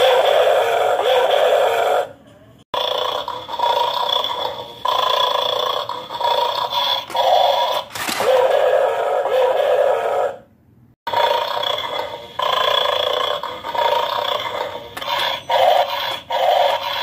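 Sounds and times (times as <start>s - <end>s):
toy dog growl from speaker: 0.0s - 2.1s, 2.8s - 10.4s, 11.1s - 17.0s.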